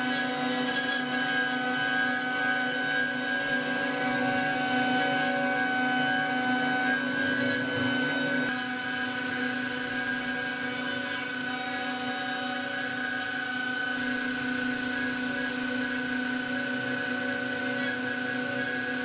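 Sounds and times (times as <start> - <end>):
router spindle whine cutting wood: 0.0 - 19.0.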